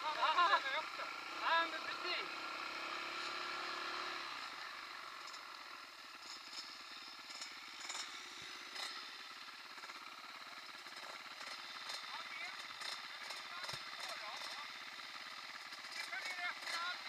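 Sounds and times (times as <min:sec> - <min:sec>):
dirt bike engines idling: 0:00.0 - 0:17.0.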